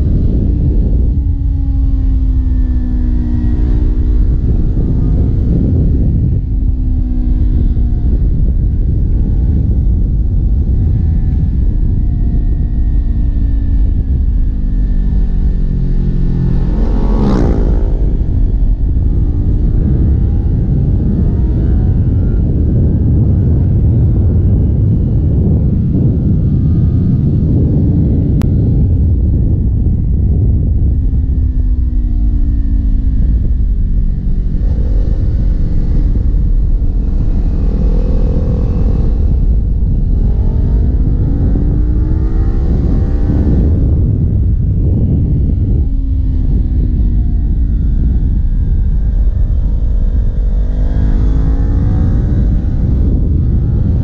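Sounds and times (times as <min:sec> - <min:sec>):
heavy low rumble: 0:00.0 - 0:54.0
motorcycle engine pulling uphill: 0:00.0 - 0:54.0.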